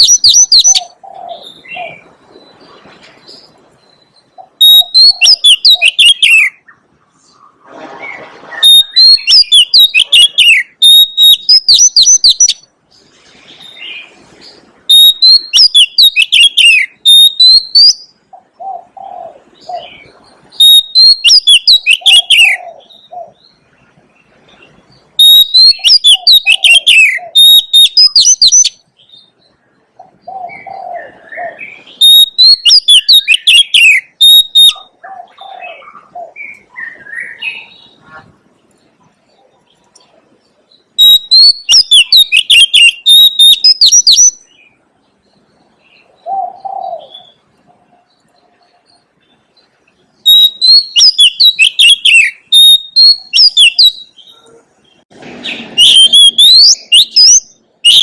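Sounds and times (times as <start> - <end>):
bird singing whistled notes: 0.0 - 7.4, 8.0 - 12.7, 13.6 - 38.1, 40.7 - 47.5, 48.2 - 54.4, 55.4 - 58.0.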